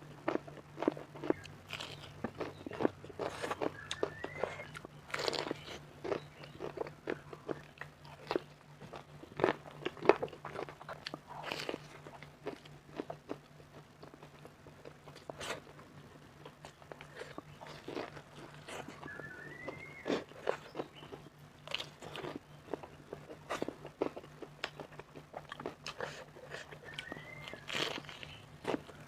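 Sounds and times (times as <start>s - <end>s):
faint low hum: 0.0s - 29.0s
crunchy bites and chewing: 0.2s - 29.0s.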